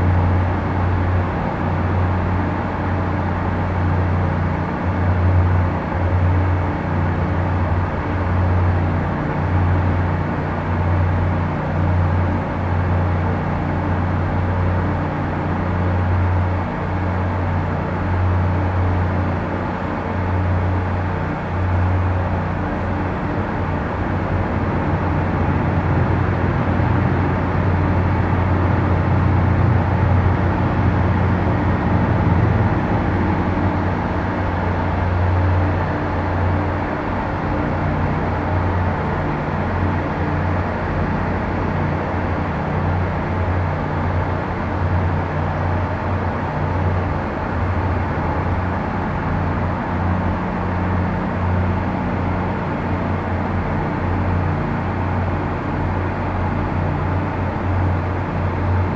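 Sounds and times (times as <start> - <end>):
watercraft engines droning: 0.0 - 58.9.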